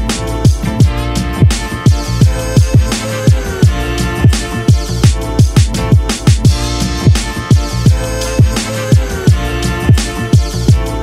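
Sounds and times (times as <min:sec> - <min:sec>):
kick drum beat: 0:00.0 - 0:11.0.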